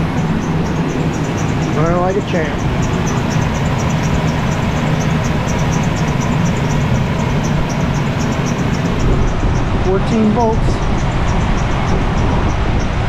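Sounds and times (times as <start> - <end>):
faint high-pitched ticking: 0.0 - 13.0
van engine idling: 0.0 - 13.0.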